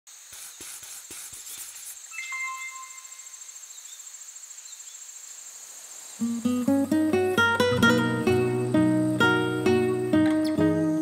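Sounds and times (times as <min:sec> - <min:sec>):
insects trilling: 0:00.1 - 0:11.0.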